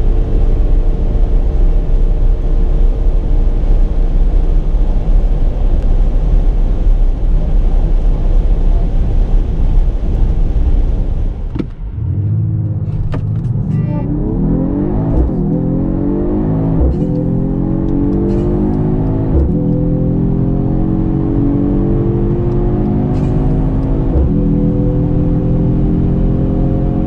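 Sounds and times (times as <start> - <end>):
car engine under full throttle: 0.0 - 27.0
road and wind roar: 0.0 - 27.0.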